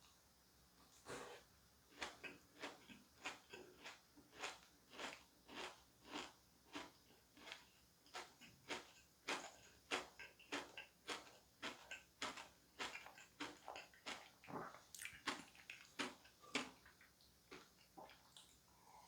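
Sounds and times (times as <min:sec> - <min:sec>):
person chewing cake: 0:01.1 - 0:18.7.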